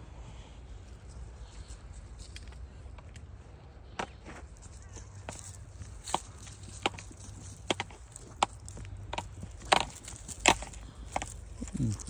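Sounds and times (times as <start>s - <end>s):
footsteps snapping dry twigs: 1.6s - 12.0s.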